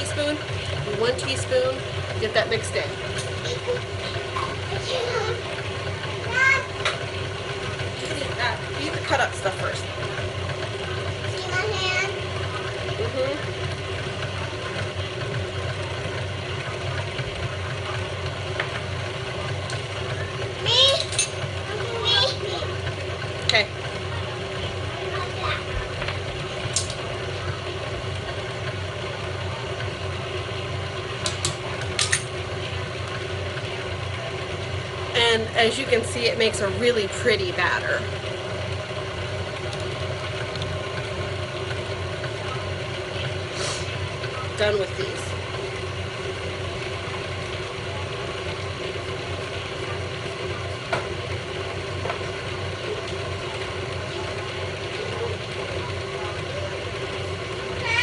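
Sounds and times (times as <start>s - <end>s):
beater whipping batter in metal bowl: 0.0s - 58.0s
stand mixer running: 0.0s - 58.0s.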